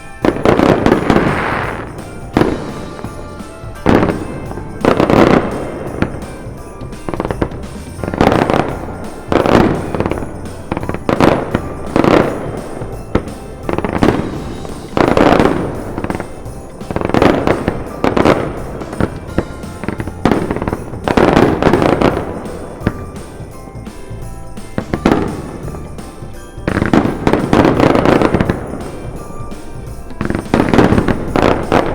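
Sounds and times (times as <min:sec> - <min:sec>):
fireworks bangs: 0:00.0 - 0:31.9.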